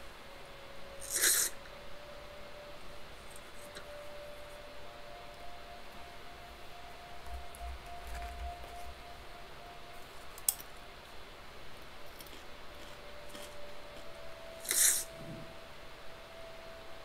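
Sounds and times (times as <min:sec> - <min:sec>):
faint drone tone: 0:00.0 - 0:17.0.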